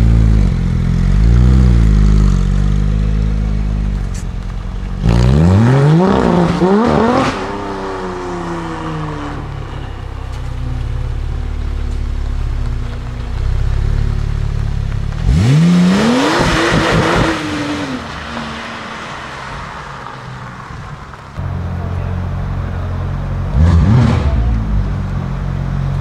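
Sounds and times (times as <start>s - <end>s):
low engine rumble: 0.0s - 16.3s, 17.0s - 26.0s
car engine revving: 0.0s - 26.0s
exhaust crackles and pops: 0.0s - 26.0s.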